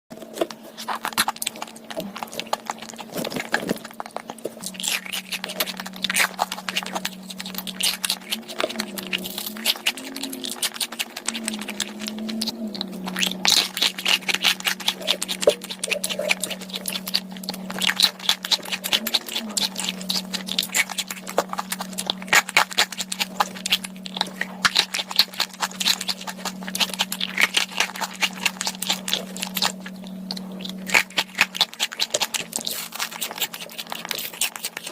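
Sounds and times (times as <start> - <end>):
crunching and chewing food: 0.1 - 34.9
low wavering hum: 0.2 - 34.9.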